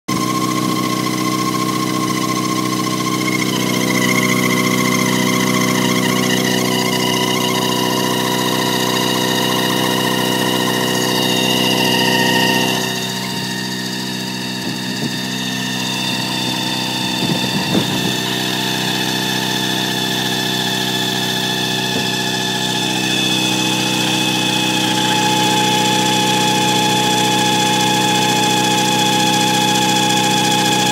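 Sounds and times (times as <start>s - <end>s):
rotary engine idling: 0.1s - 30.9s
squeaky alternator whine: 0.1s - 30.9s.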